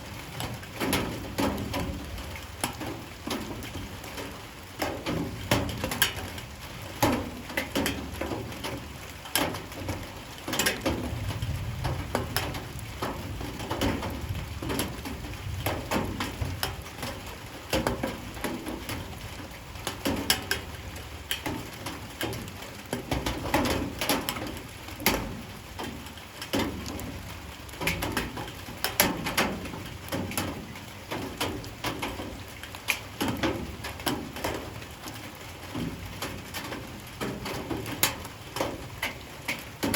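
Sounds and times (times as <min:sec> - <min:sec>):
raindrops tapping on surfaces: 0:00.0 - 0:39.9
steady rain: 0:00.0 - 0:39.9.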